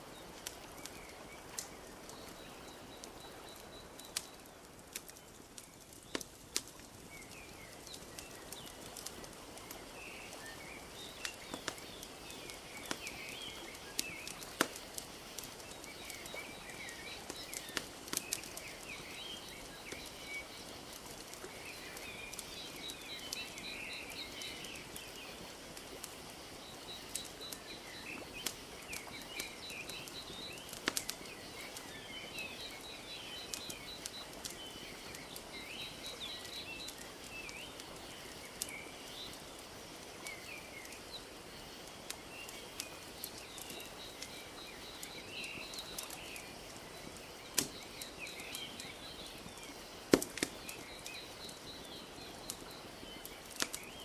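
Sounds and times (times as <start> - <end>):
small birds chirping: 0.0 - 54.0
wood fire crackling: 0.0 - 54.0.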